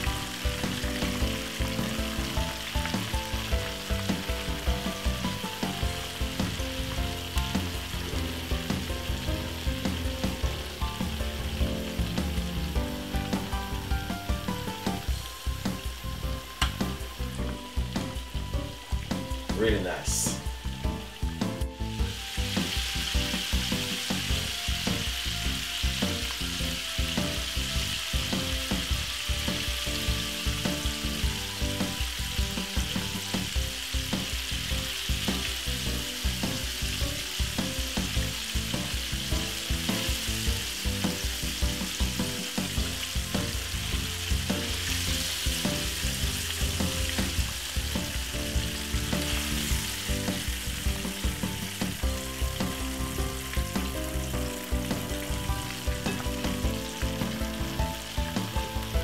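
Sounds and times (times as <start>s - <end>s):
chicken frying in hot oil: 0.0s - 59.0s.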